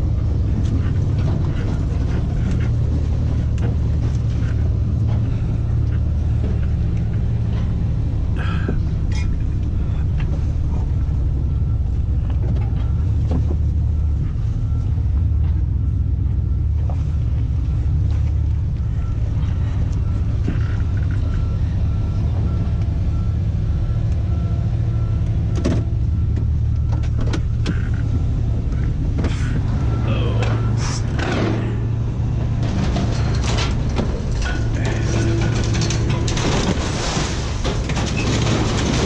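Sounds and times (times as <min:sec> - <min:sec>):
rattles and clicks: 0:00.0 - 0:21.6, 0:25.2 - 0:39.0
truck engine and road rumble: 0:00.0 - 0:39.0.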